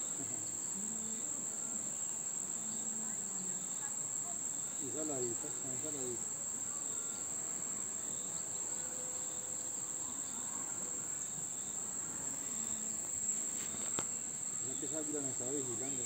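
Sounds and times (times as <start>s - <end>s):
chorus of insects droning: 0.0s - 16.0s.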